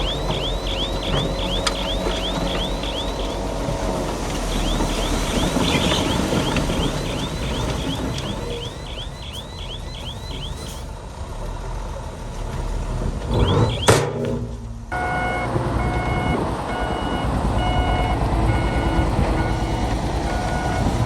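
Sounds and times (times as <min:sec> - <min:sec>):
reversing alarm chirps: 0:00.0 - 0:03.8, 0:04.4 - 0:10.9, 0:13.3 - 0:14.0, 0:14.9 - 0:21.0
heavy diesel machine running: 0:00.0 - 0:21.0.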